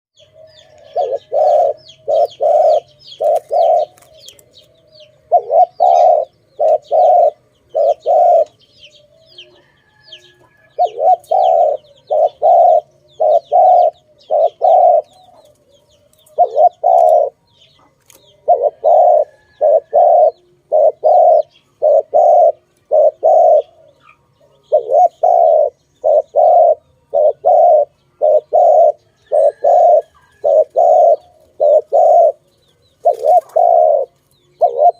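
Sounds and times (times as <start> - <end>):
dove cooing: 0.2 - 34.9
small birds chirping faintly: 0.2 - 34.9.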